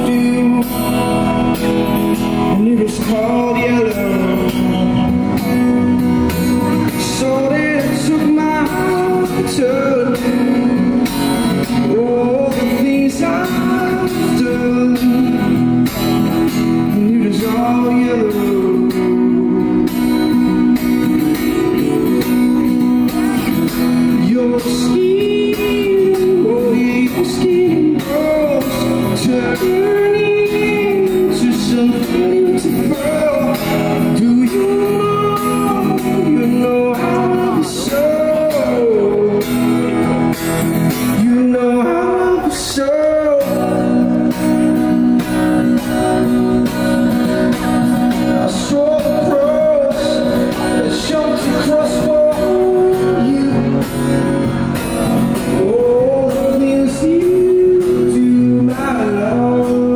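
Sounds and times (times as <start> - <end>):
man singing into microphone: 0.0 - 5.9, 6.7 - 59.9
acoustic guitar strumming: 0.0 - 59.9.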